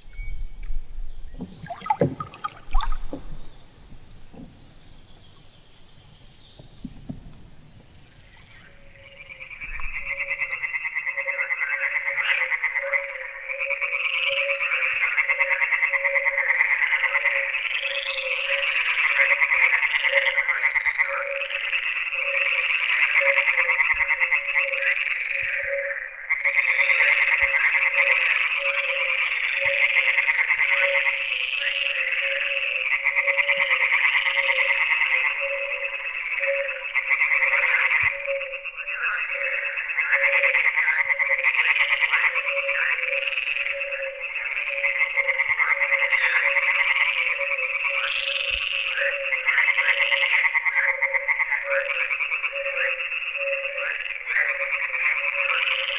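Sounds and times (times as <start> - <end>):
frogs chorus rasping: 7.9 - 55.9.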